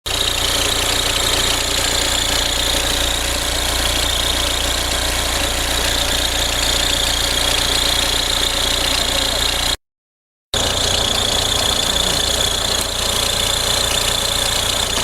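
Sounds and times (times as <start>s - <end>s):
diesel engine idling: 0.1s - 9.8s, 10.6s - 15.0s.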